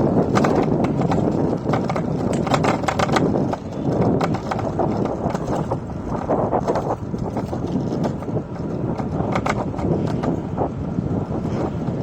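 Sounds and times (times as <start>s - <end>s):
small clicks and rattles: 0.0s - 10.5s
scooter road noise: 0.0s - 12.0s.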